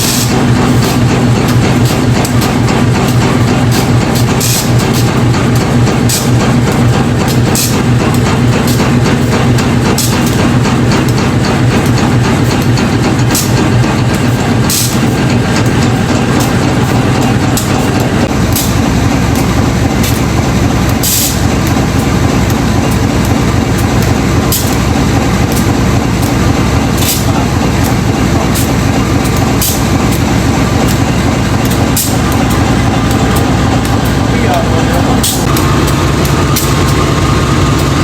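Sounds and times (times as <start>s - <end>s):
diesel locomotive engine idling: 0.0s - 38.0s.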